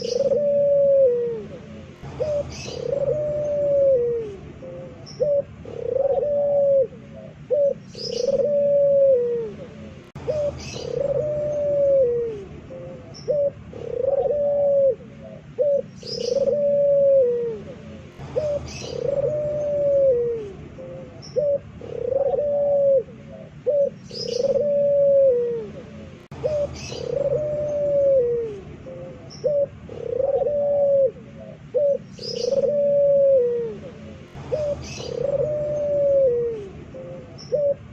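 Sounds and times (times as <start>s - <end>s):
small birds chirping: 0.0s - 0.6s, 1.2s - 37.9s
dove cooing: 0.0s - 37.9s.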